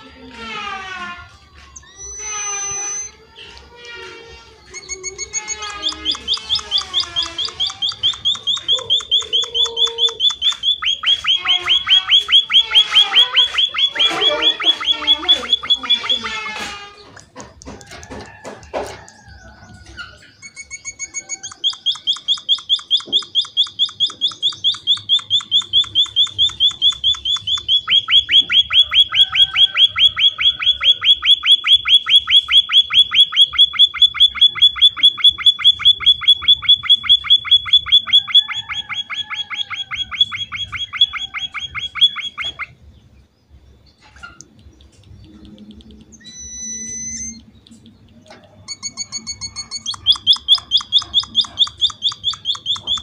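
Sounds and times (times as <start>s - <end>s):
small bird chirping rapidly: 1.6s - 18.4s, 19.0s - 53.0s.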